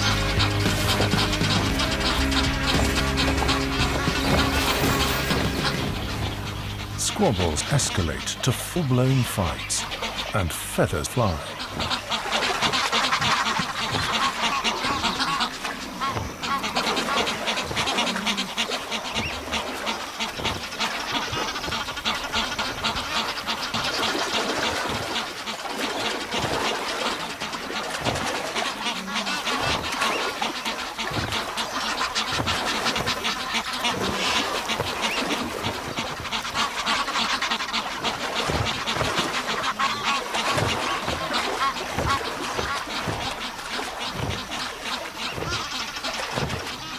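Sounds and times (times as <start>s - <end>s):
geese honking: 0.0s - 46.9s.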